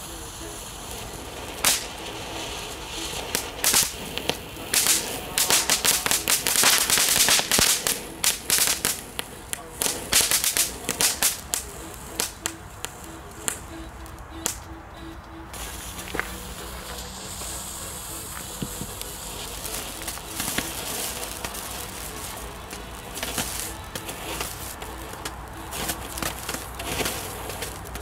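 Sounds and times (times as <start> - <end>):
firework crackling: 0.0 - 28.0
firework hissing sparks: 0.0 - 28.0.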